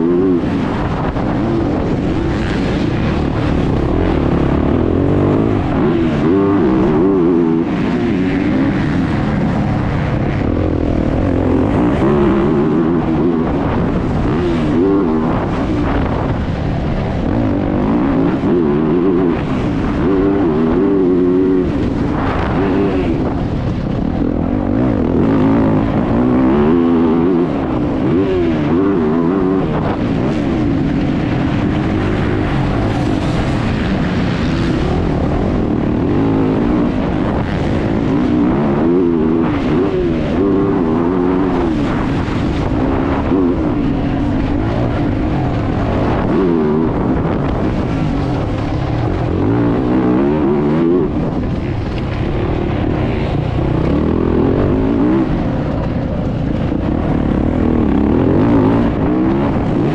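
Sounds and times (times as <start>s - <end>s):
motocross bike engine revving: 0.0s - 59.9s
wind and dirt noise: 0.0s - 59.9s.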